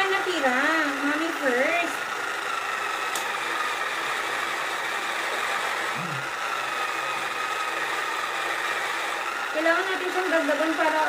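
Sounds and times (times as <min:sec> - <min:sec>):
pottery wheel motor humming: 0:00.0 - 0:11.0.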